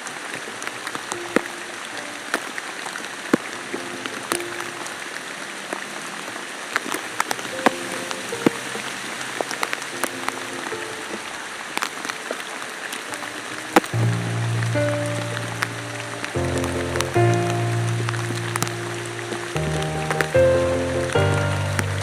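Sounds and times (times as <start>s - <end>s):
raindrops clicking close by: 0.0s - 22.0s
steady rain hiss: 0.0s - 22.0s.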